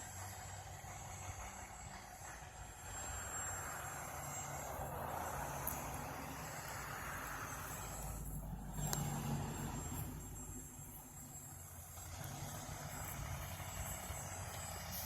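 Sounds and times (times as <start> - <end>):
low engine rumble: 0.0 - 15.0
tyre and road noise: 0.0 - 15.0.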